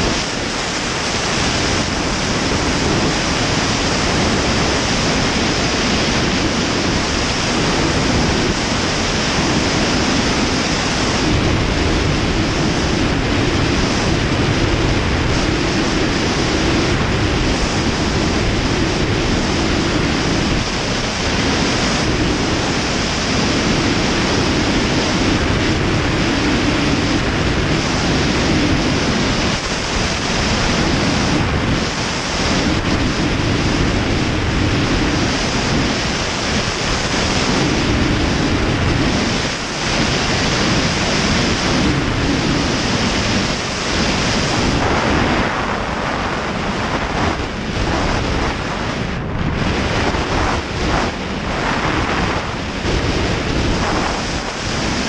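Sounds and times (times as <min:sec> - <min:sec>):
aircraft engine drone: 0:00.0 - 0:55.0
heavy wind rush: 0:00.0 - 0:55.0.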